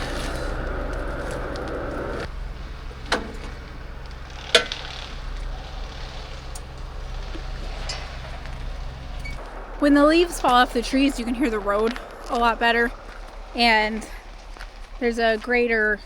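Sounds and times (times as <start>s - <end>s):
distant brush mower: 0.0s - 16.0s
road grader droning: 0.0s - 16.0s.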